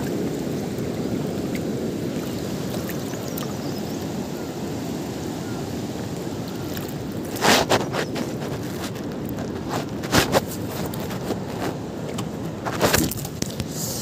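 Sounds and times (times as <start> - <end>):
fast river rushing: 0.0 - 14.0.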